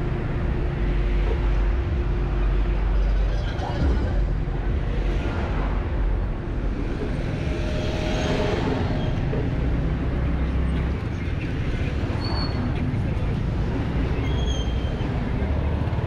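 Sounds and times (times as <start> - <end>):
city traffic noise: 0.0 - 16.0
low rumble on microphone: 0.0 - 16.0.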